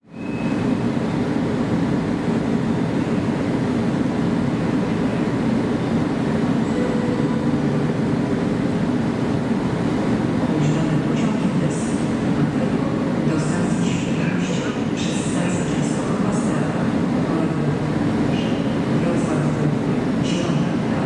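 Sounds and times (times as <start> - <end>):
electric train humming: 0.5 - 21.0.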